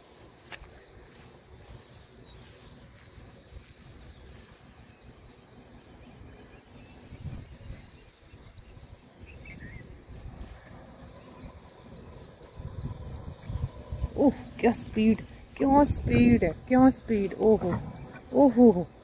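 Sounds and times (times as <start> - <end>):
wind rumble: 0.0 - 19.0.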